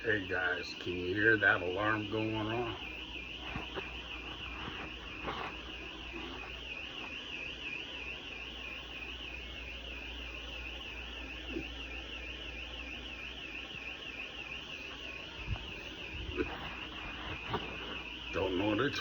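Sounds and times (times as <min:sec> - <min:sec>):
steady low hum: 0:00.0 - 0:19.0
warbling electronic alarm: 0:00.0 - 0:19.0.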